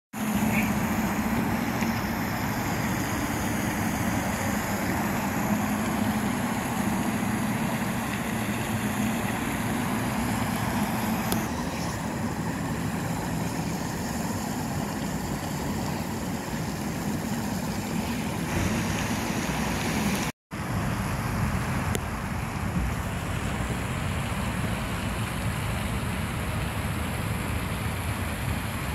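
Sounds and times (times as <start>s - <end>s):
road traffic: 0.1s - 28.9s.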